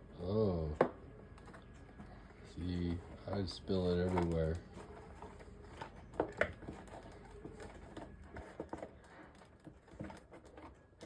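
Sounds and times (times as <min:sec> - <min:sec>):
hands handling bike tire: 0:01.6 - 0:11.0.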